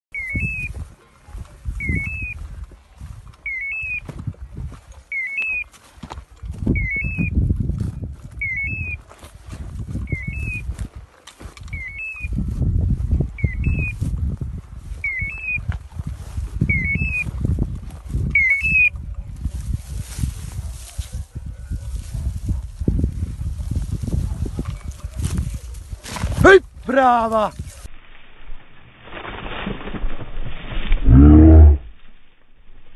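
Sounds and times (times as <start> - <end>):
footsteps rustling in dry grass: 0.2 - 31.1.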